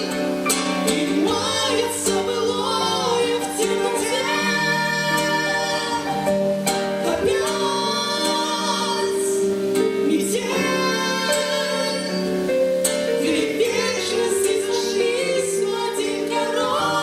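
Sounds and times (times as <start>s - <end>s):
keyboard accompaniment: 0.0s - 17.0s.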